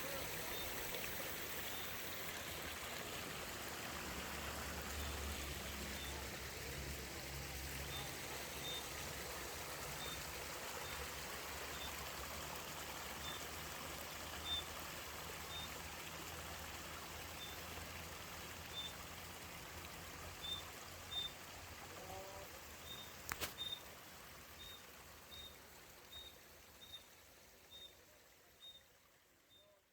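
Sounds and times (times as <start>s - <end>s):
spring water flowing: 0.0s - 29.4s.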